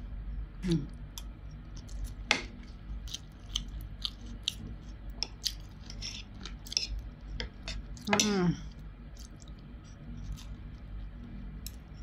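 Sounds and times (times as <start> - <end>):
person chewing food: 0.6 - 12.0.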